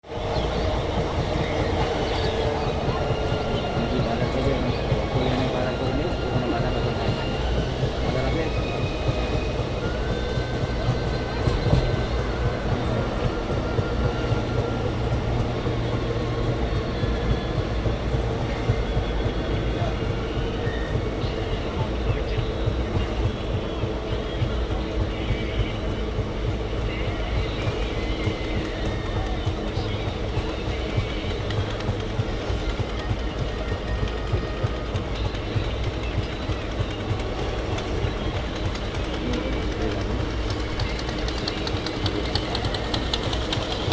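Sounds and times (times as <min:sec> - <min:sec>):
faint whining tones: 0:00.0 - 0:43.9
train wheels rumbling on track: 0:00.0 - 0:43.9.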